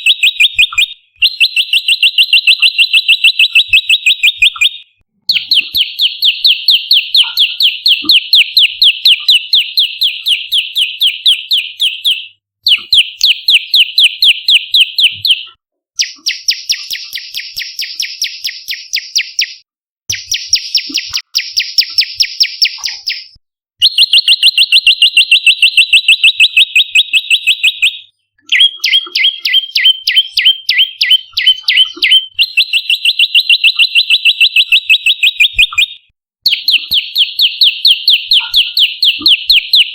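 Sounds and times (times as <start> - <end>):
warbler singing rapid trill: 0.0 - 35.9.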